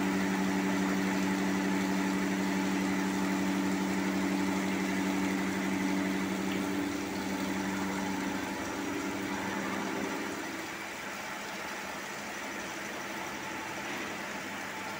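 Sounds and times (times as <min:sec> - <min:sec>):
coolant hiss: 0:00.0 - 0:14.9
milling machine humming: 0:00.0 - 0:14.9.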